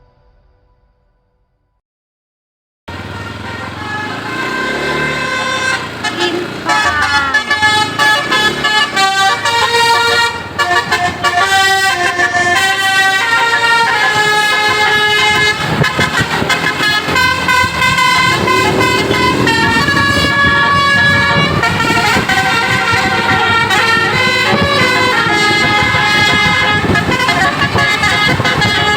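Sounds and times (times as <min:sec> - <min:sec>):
bus engine rumble: 0:02.9 - 0:28.9
bus horn playing melody: 0:02.9 - 0:28.9.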